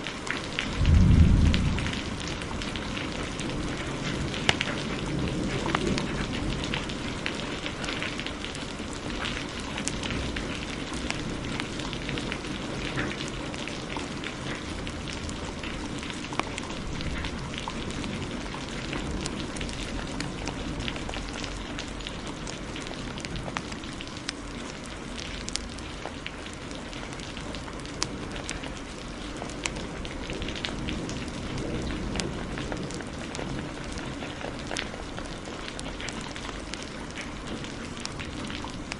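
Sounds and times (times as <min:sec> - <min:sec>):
heavy rain: 0:00.0 - 0:38.9
wood fire crackling: 0:00.2 - 0:38.9.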